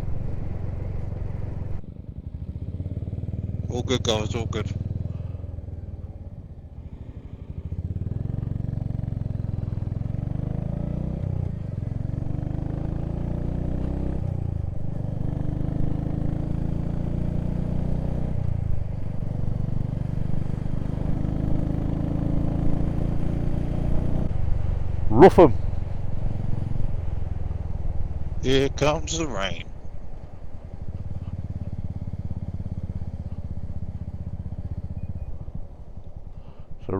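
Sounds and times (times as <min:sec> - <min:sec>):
motorcycle engine shifting gears: 0:00.0 - 0:03.7, 0:04.7 - 0:28.5, 0:29.7 - 0:36.9.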